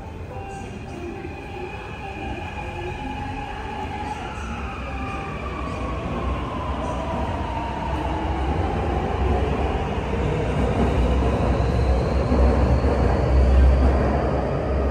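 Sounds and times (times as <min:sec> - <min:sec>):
train wheels rumbling on rail: 0:01.8 - 0:14.9.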